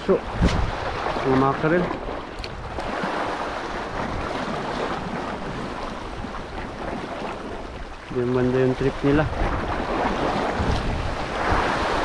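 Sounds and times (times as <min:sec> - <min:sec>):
sea waves rushing: 0:00.0 - 0:12.0
wind blowing on microphone: 0:00.0 - 0:12.0.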